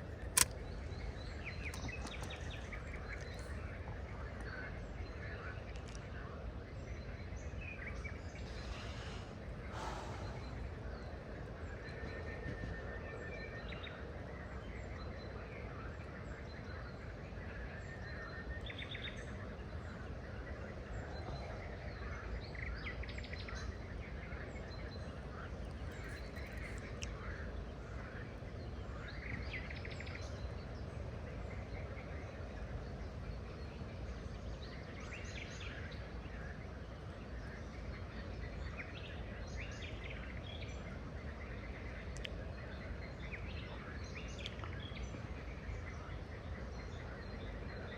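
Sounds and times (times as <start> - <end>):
birds calling and chirping: 0.0 - 47.9
low background noise: 0.0 - 47.9.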